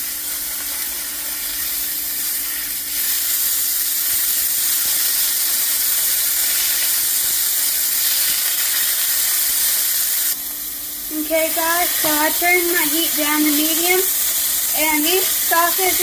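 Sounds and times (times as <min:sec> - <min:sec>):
sausages sizzling in a covered pan: 0:00.0 - 0:16.0.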